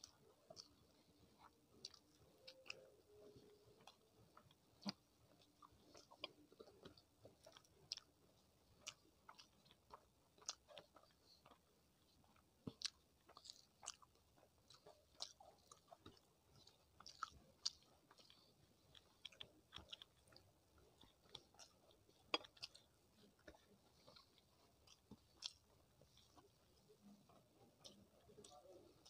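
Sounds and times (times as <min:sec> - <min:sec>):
person chewing: 0:00.0 - 0:08.2, 0:08.8 - 0:29.0.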